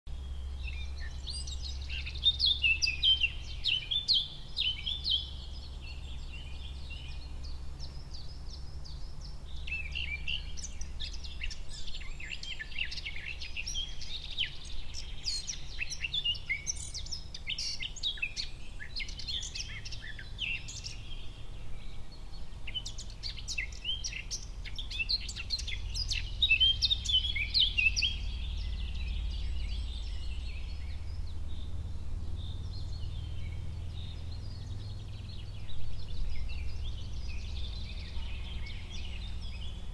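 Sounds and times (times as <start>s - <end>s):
songbirds chirping and trilling: 0.1s - 39.9s
steady low rumble: 0.1s - 39.9s.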